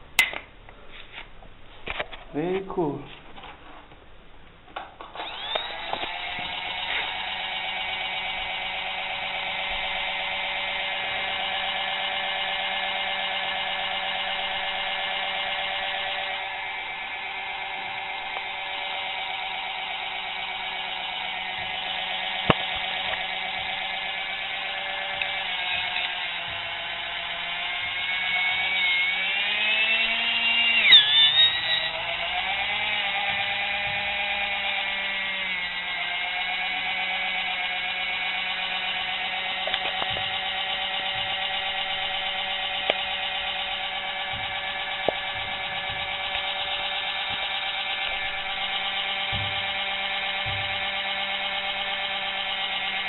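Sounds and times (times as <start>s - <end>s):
mixer motor whining: 5.0s - 53.0s.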